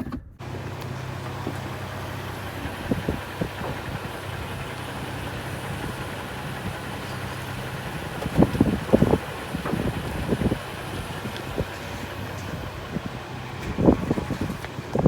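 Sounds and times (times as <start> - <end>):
pickup engine idling: 0.4 - 15.0.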